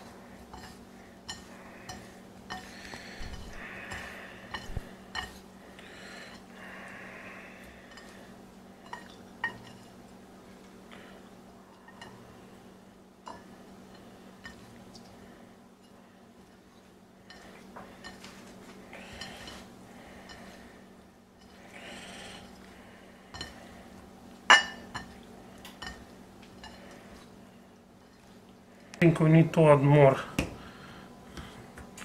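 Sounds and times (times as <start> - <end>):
soft squishing rustles: 0.0 - 29.1
steady low hum: 0.0 - 32.0.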